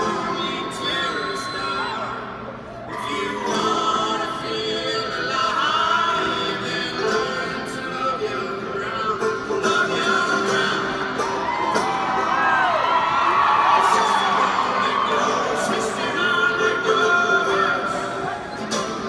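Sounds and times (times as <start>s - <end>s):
acoustic folk band playing: 0.0s - 19.0s.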